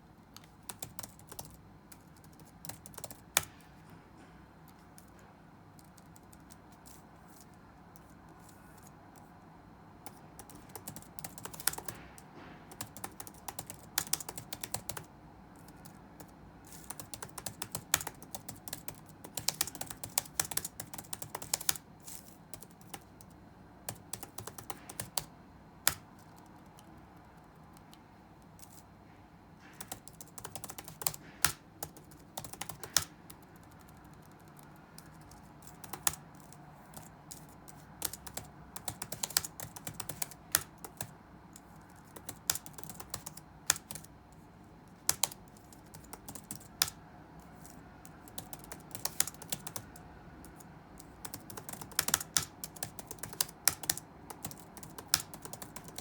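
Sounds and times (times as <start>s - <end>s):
low room hum: 0.0s - 56.0s
computer keyboard typing: 0.3s - 3.9s, 4.6s - 9.3s, 10.0s - 28.8s, 29.6s - 56.0s.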